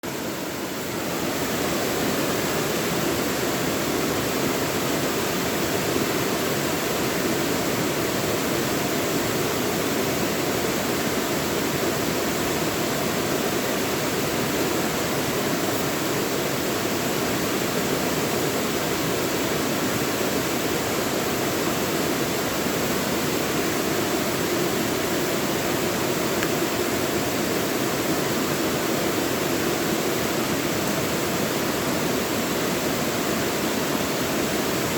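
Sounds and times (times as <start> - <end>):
stream rushing water: 0.0 - 34.9.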